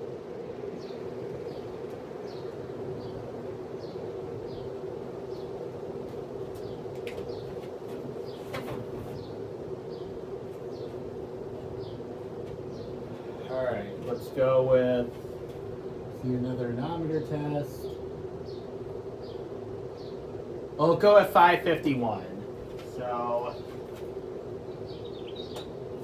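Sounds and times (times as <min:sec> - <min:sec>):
ceiling fan motor hum: 0:00.0 - 0:26.0.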